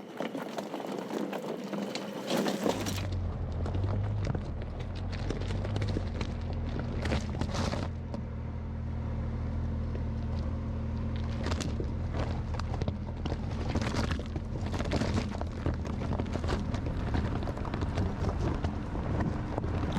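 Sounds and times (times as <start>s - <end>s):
crackling tyre and chassis noise: 0.0s - 19.9s
car engine running: 0.7s - 19.9s.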